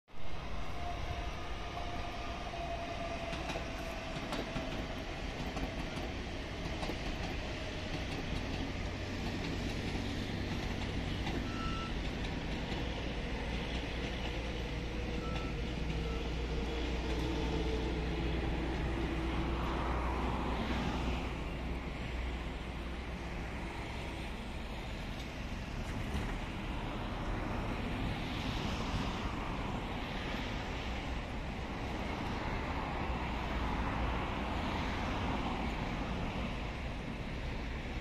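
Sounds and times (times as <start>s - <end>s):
electric train rumble: 0.1s - 38.0s.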